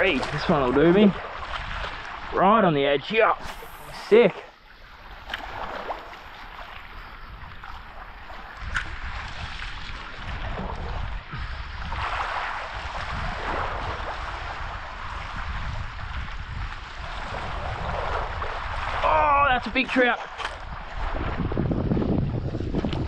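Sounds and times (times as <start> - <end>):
water lapping around reef: 0.0 - 23.0
wind buffeting microphone: 0.0 - 23.0.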